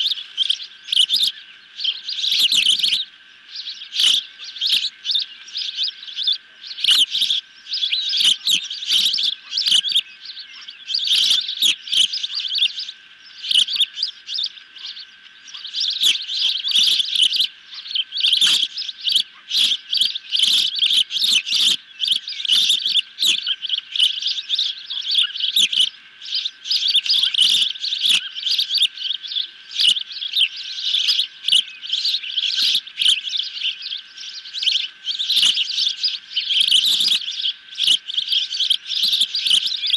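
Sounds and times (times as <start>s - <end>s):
faint steady hum: 0.0s - 39.9s
ospreys chirping: 0.0s - 39.9s.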